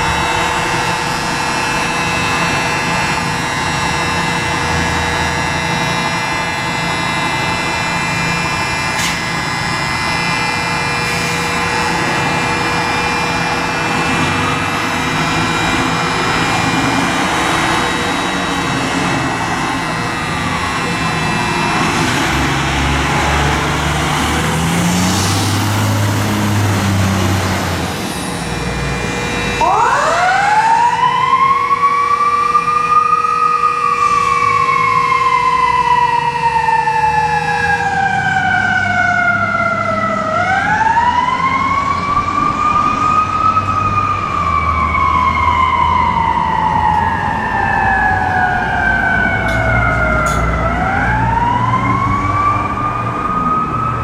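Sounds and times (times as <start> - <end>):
fire truck engine running: 0.0 - 54.0
wailing siren: 0.0 - 54.0.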